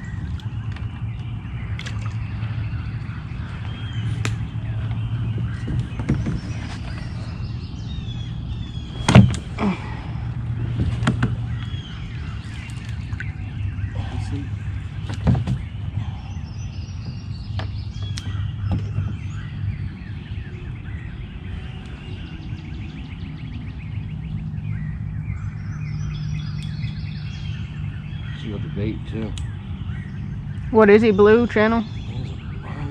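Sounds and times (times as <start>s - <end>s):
songbirds chirping: 0.0s - 32.9s
steady low rumble: 0.0s - 32.9s.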